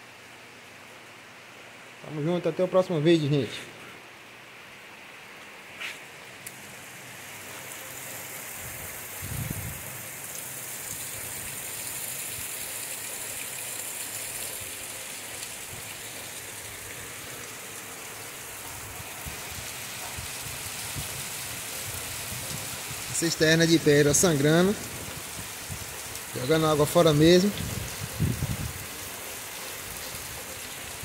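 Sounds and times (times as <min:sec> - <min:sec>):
heavy rain falling: 0:06.0 - 0:31.0.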